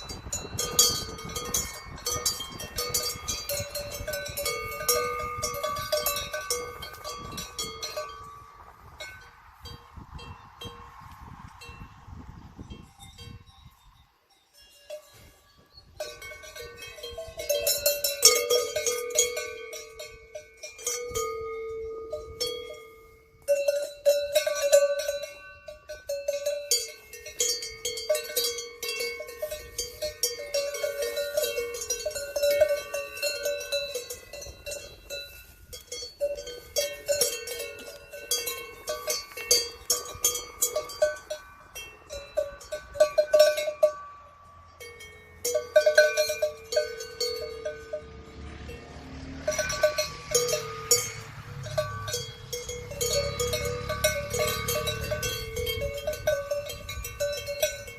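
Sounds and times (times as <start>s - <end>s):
cowbells clanking: 0.0s - 12.0s, 12.6s - 57.9s.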